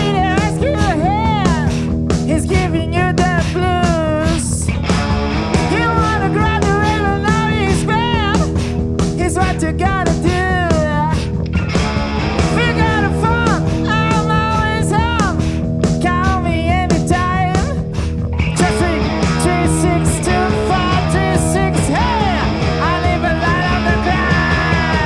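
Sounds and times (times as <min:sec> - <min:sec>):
hard rock band playing: 0:00.0 - 0:25.0.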